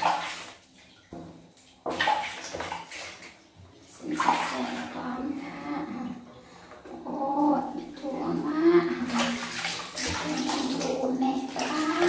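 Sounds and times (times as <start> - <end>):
water splashing in plastic basin: 0.0 - 12.0.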